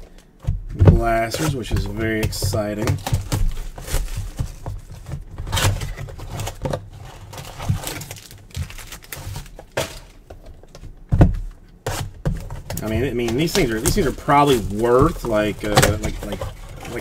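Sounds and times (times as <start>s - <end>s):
cardboard boxes tapping and knocking: 0.0s - 17.0s
cardboard rustling: 0.0s - 17.0s.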